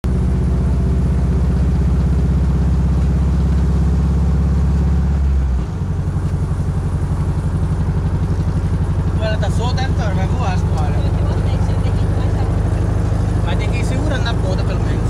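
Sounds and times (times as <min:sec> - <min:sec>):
dune buggy engine running: 0:00.0 - 0:15.0.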